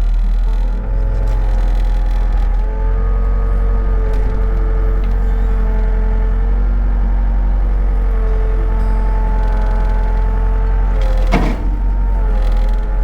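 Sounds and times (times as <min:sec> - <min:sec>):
excavator diesel engine running: 0:00.0 - 0:13.0
hydraulic whine: 0:00.0 - 0:13.0.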